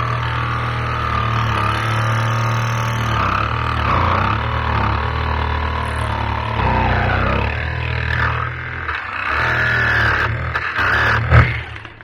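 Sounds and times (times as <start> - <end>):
motor humming and whining: 0.0 - 12.0.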